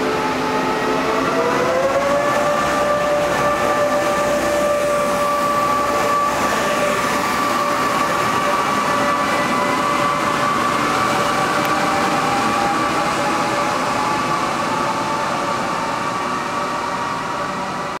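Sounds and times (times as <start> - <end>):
electric train running noise: 0.0 - 18.0
steady whining tones: 0.0 - 18.0.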